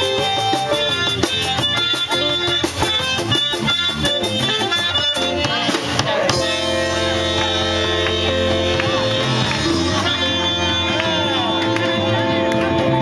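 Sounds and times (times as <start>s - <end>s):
live band with guitar and dance beat: 0.0s - 13.0s.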